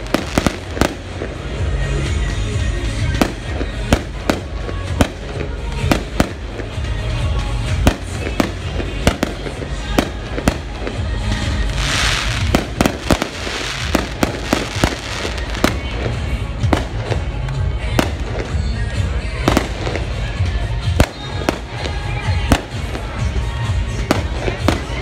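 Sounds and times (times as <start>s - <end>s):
music playing: 0.0s - 25.0s.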